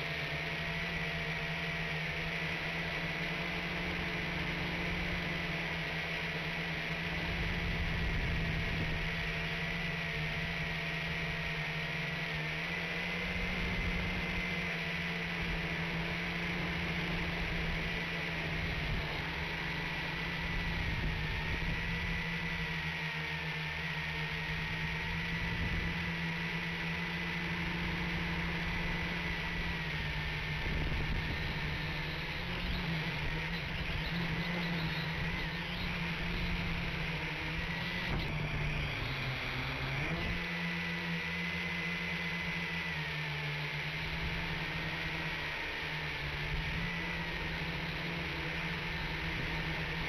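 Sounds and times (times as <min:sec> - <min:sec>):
quadcopter motors whirring: 0:00.0 - 0:50.0
thin high whine: 0:00.0 - 0:50.0.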